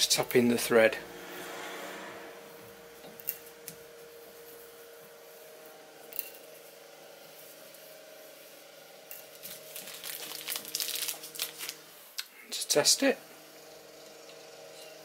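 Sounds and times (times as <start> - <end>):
steady hum: 0.0 - 14.3.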